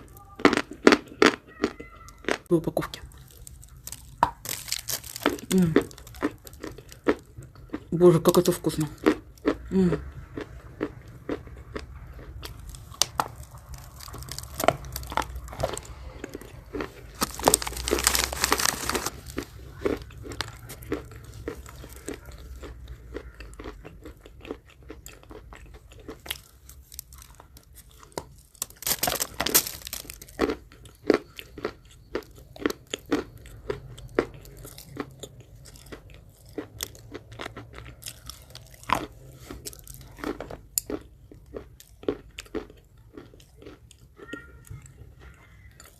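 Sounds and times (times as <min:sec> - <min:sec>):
chewing chalk crunching: 0:00.0 - 0:45.9.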